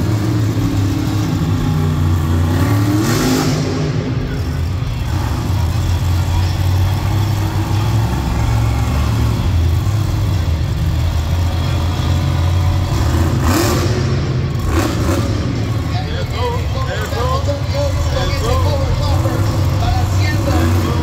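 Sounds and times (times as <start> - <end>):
loud engine revving: 0.0 - 21.0.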